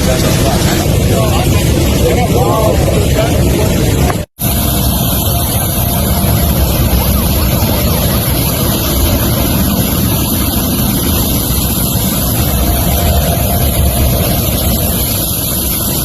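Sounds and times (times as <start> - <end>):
road noise: 0.0 - 16.0
vehicle engines rumbling: 0.0 - 16.0.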